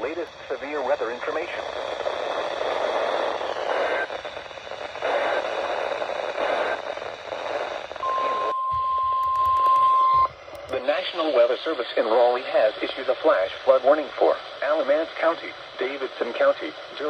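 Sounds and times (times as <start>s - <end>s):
radio static hissing: 0.0s - 17.0s.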